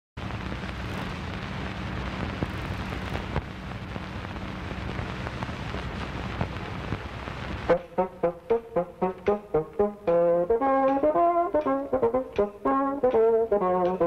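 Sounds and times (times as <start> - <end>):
low electrical hum: 0.2 - 14.0
tape hiss and crackle: 0.2 - 14.0.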